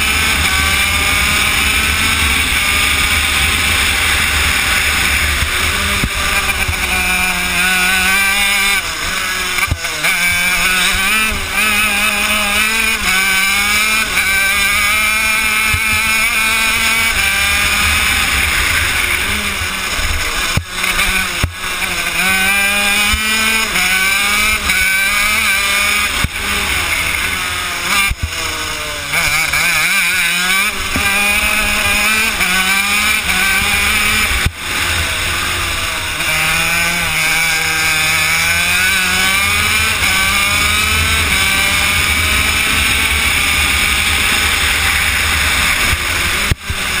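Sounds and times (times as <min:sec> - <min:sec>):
kart engine revving: 0:00.0 - 0:47.0.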